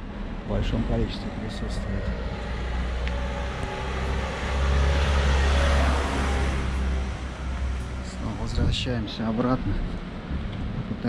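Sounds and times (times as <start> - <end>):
van engine running low: 0.0 - 11.0.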